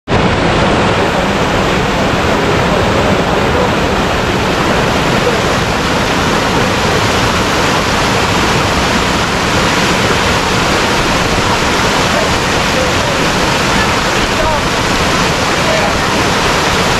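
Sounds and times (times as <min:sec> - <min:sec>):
waterfall rushing over rocks: 0:00.1 - 0:16.9.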